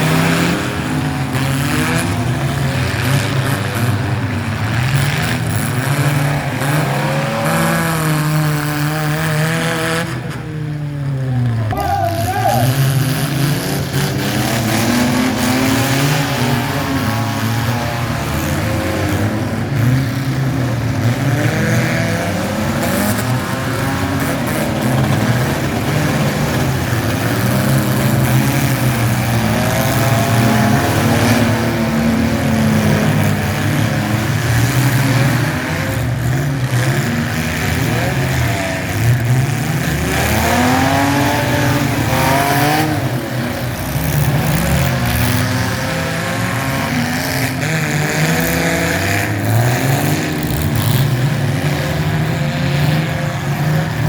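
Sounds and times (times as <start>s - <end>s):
small truck engines revving: 0.0s - 54.0s.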